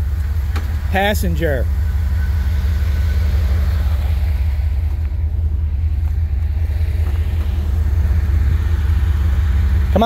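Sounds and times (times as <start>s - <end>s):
truck engine deep rumble: 0.0s - 10.0s.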